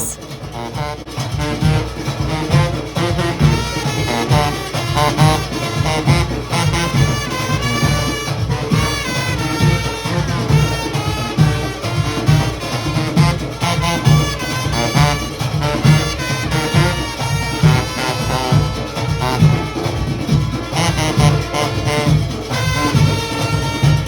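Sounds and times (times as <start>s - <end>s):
brass horns melody: 1.4s - 24.0s.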